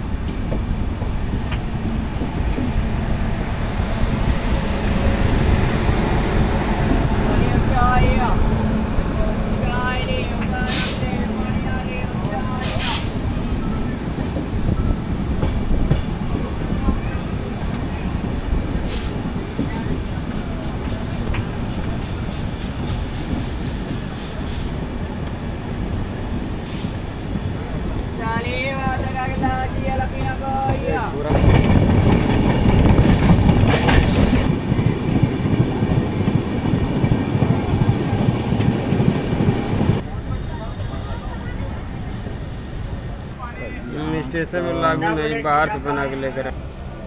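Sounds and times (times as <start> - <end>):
train running low rumble: 0.0 - 47.0.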